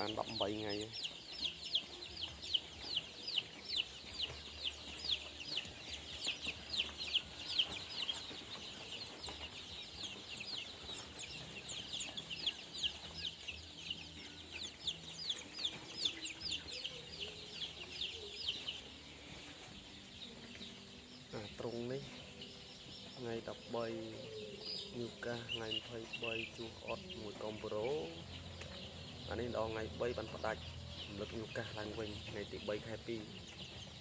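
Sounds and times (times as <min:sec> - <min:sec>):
chicks peeping: 0:00.0 - 0:34.0.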